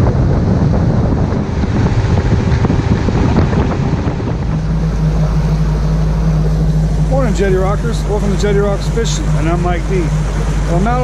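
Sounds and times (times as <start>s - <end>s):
boat motor humming: 0.0s - 11.0s
water rushing: 0.0s - 11.0s
wind buffeting microphone: 0.0s - 11.0s.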